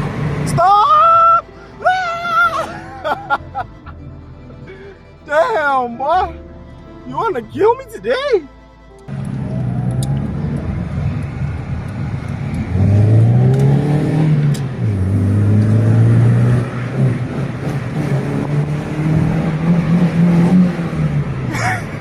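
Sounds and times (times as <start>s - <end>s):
car engine accelerating hard: 0.0s - 6.2s, 9.1s - 22.0s.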